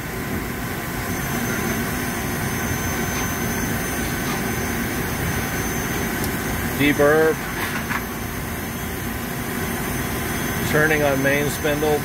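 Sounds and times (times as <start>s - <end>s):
high steady whine: 0.0s - 12.0s.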